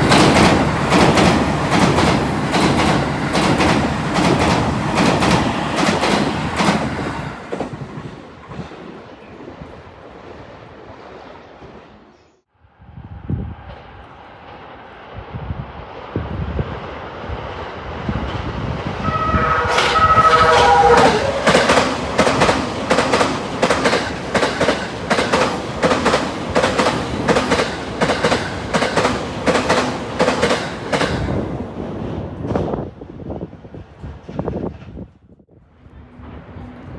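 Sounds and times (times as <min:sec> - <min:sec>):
electric train passing: 0:00.0 - 0:12.0, 0:12.7 - 0:34.6, 0:35.6 - 0:36.9.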